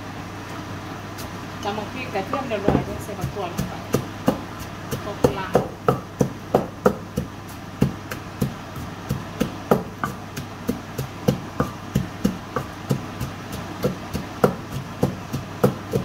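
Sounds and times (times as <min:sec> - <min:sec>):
pestle pounding in mortar: 0:02.3 - 0:16.0.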